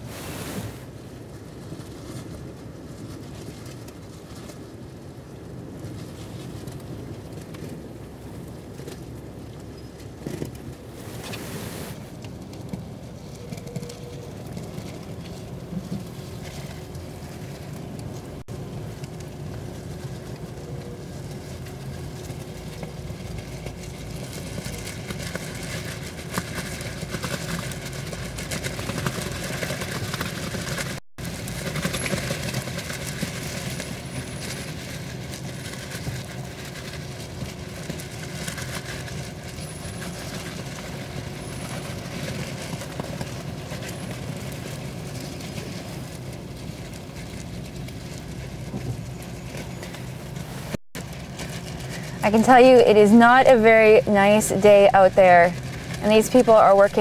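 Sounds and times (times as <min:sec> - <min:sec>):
vehicle engines rumbling: 0:00.0 - 0:57.0.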